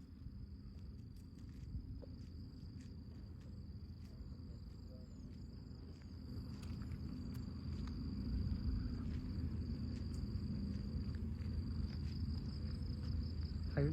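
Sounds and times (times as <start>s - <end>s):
insects trilling: 0.0s - 13.9s.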